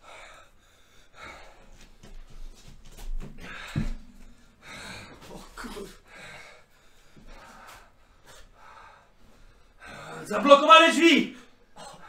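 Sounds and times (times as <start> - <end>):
man breathing heavily: 0.0 - 10.3.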